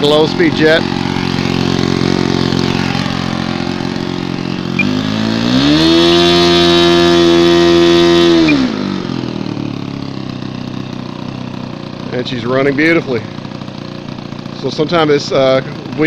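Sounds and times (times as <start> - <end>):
model airplane engine revving: 0.0 - 16.0.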